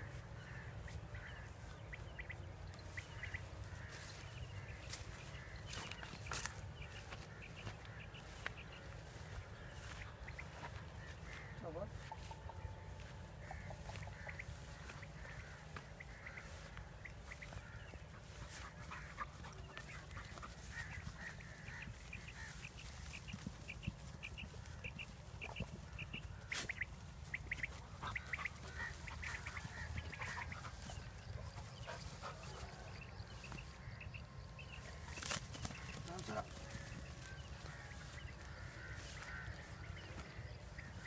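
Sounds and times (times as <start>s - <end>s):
birds calling high notes: 0.0s - 41.0s.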